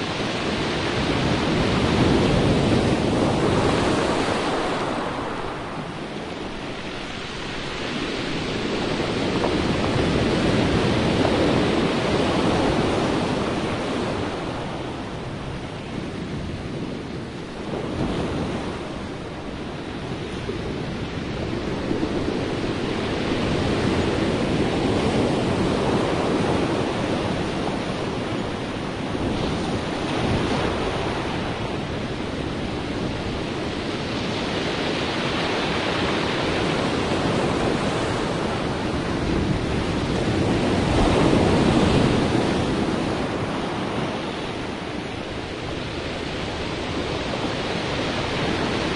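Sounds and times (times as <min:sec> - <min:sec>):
sea waves washing in: 0:00.0 - 0:48.9.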